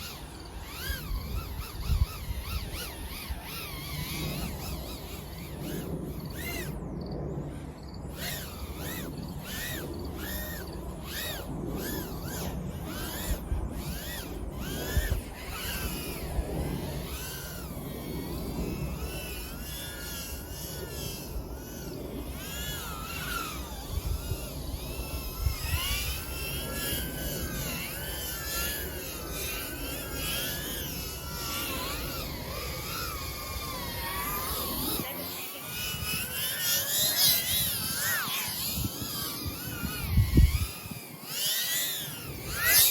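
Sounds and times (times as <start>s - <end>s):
small drone motors whining: 0.0s - 42.9s.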